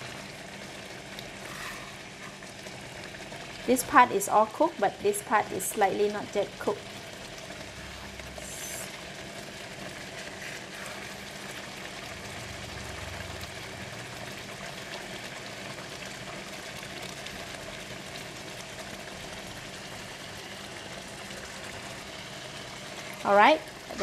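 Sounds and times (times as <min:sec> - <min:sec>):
fish sizzling in a wok: 0:00.0 - 0:24.0.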